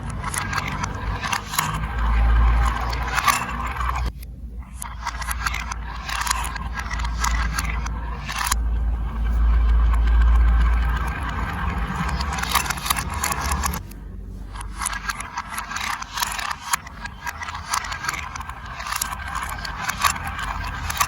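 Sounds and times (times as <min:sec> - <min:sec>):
marbles rolling on plastic track: 0:00.0 - 0:04.1, 0:04.7 - 0:21.0.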